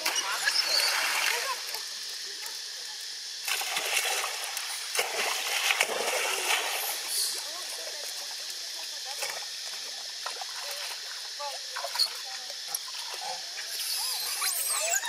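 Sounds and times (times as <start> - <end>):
water splashing and sloshing: 0.0 - 13.7.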